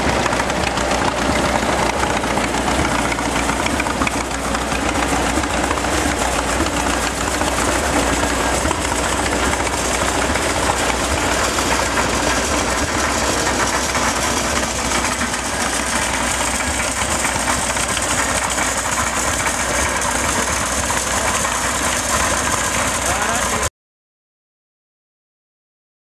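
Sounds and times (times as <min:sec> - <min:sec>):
tractor engine running: 0:00.0 - 0:23.7.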